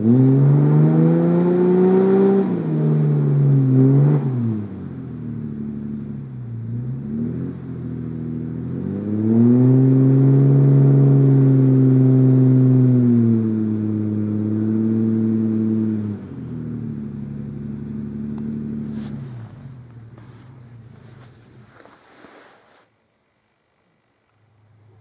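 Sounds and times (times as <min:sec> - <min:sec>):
car engine revving hard: 0:00.0 - 0:22.4.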